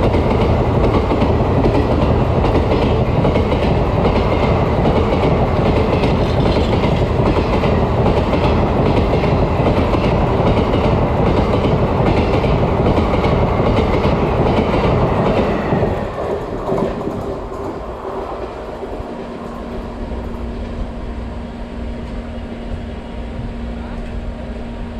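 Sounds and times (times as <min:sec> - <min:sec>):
train wheels clickety-clack: 0:00.0 - 0:20.9
train rumble: 0:00.0 - 0:24.9.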